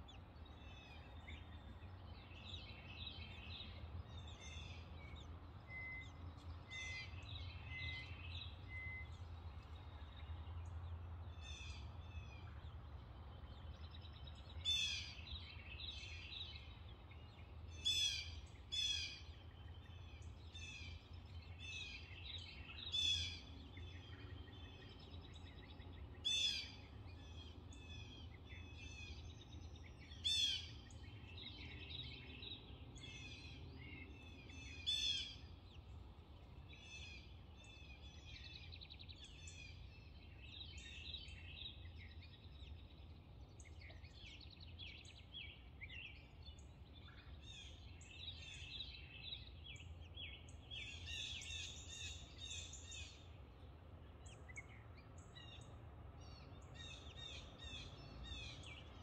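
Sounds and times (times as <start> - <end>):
birds chirping: 0.0 - 59.0
steady low hum: 0.0 - 59.0.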